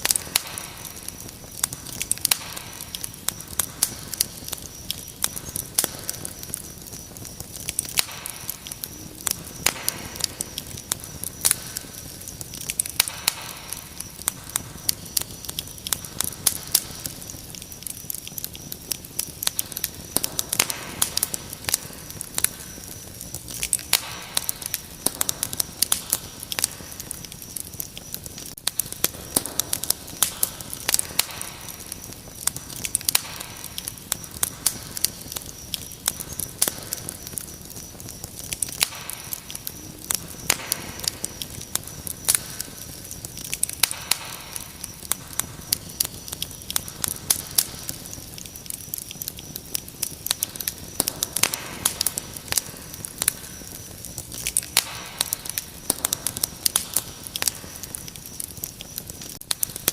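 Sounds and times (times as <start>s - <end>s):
crickets chirping: 0.0s - 59.9s
wood fire crackling and popping: 0.0s - 59.9s.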